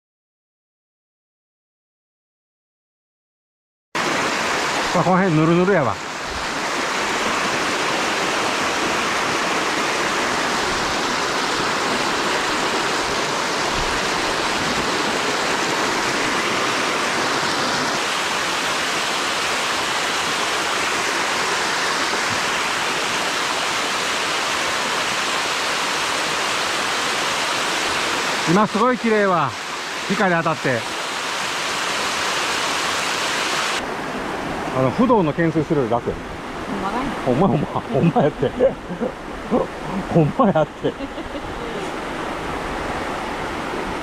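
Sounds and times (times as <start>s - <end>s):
waterfall rushing: 4.0s - 44.0s.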